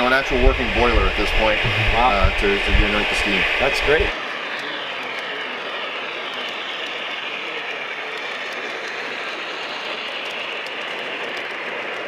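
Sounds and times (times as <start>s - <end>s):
model train rumbling on track: 0.0s - 12.0s.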